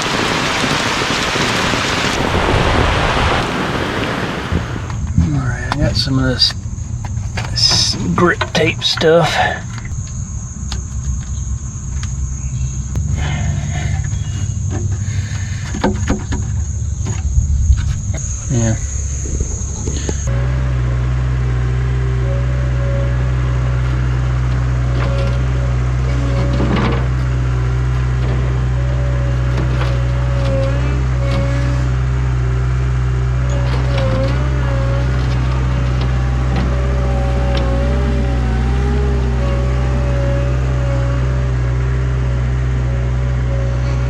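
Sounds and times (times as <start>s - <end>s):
skid steer engine running: 0.0s - 44.0s.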